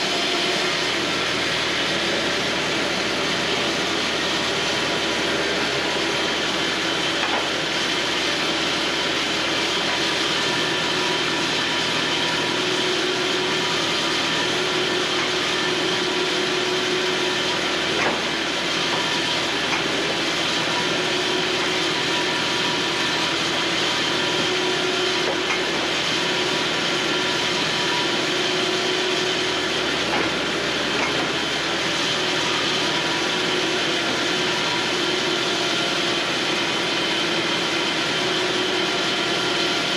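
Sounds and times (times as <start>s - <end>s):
band sawmill blade sawing wood: 0.0s - 39.9s.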